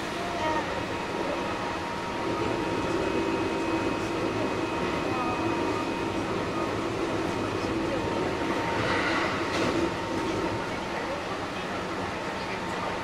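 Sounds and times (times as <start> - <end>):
electrical whine from train motors: 0.0 - 13.0
train wheels rumbling on rails: 0.0 - 13.0.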